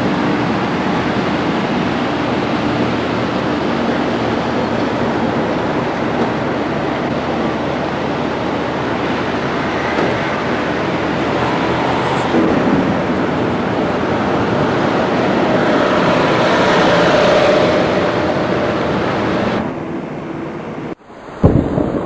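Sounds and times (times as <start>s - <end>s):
vehicle road noise: 0.0s - 22.0s.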